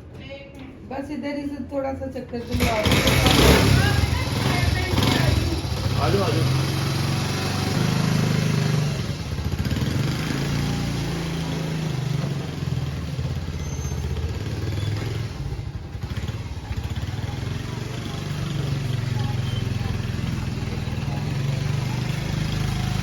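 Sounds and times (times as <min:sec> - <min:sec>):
motorcycle engine running: 0:02.4 - 0:23.0.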